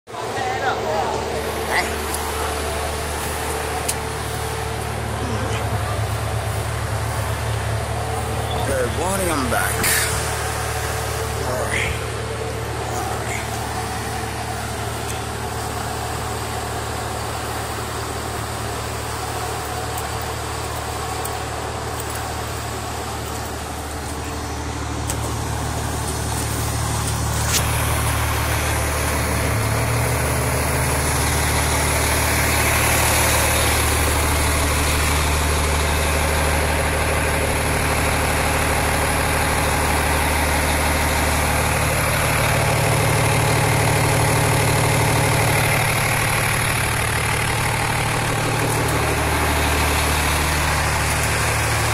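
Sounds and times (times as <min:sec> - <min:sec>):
fire engine idling: 0:00.1 - 0:51.9.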